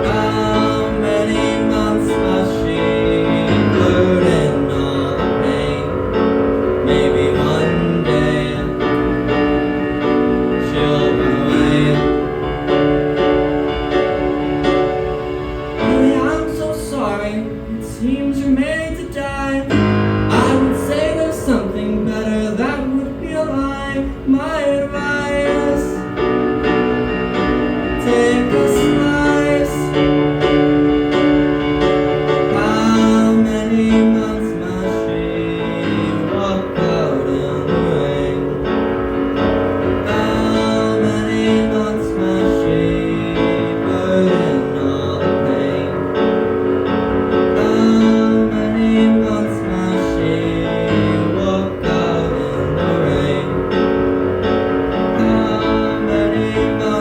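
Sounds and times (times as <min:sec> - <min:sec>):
person singing: 0:00.0 - 0:57.0
piano accompaniment: 0:00.0 - 0:57.0.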